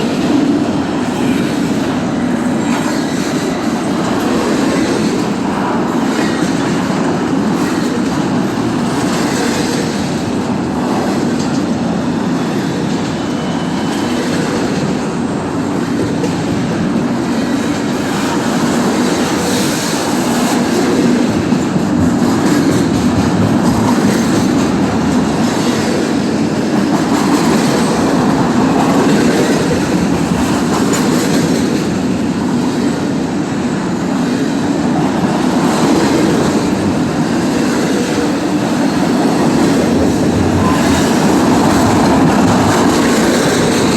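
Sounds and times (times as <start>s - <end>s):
clickety-clack over rail joints: 0.0s - 43.9s
steel wheels rumbling on rails: 0.0s - 43.9s.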